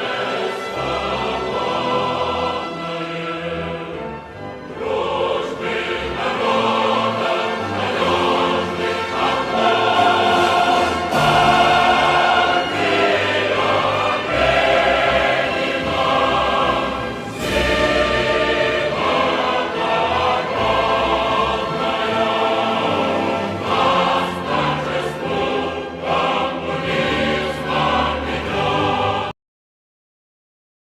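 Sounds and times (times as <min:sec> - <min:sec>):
choir singing sustained chords: 0:00.0 - 0:29.4.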